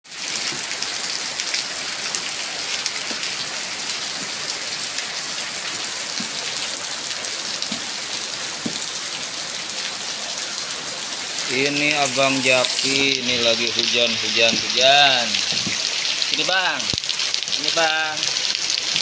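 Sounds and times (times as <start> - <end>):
rain pattering: 0.1 - 19.0
water drips: 0.1 - 19.0.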